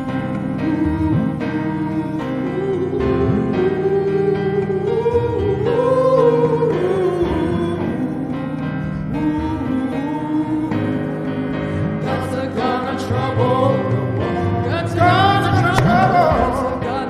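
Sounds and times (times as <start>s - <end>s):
piano accompaniment: 0.0s - 17.0s
voices singing with vibrato: 0.0s - 17.0s.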